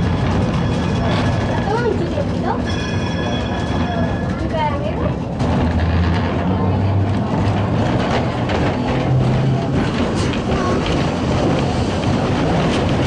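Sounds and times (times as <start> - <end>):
tram rumble and rattle: 0.0 - 13.0
wheels clicking on track: 0.0 - 13.0.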